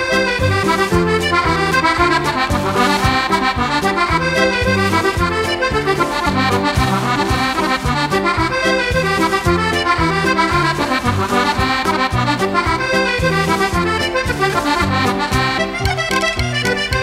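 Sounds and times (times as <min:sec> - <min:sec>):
button accordion dance tune: 0:00.0 - 0:17.0.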